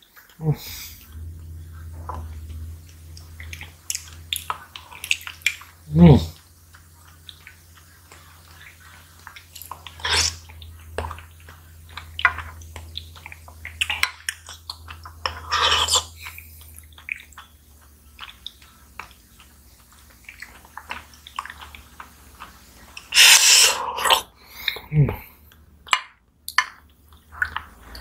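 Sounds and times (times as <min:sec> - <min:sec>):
wet slurping mouth sounds: 0:00.4 - 0:17.5, 0:18.1 - 0:25.2.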